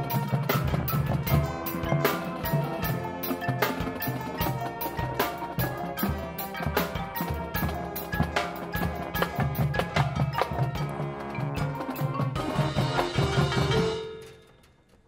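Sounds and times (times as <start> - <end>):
held brass notes: 0.0 - 14.3
mallet and drum strikes: 0.0 - 14.6.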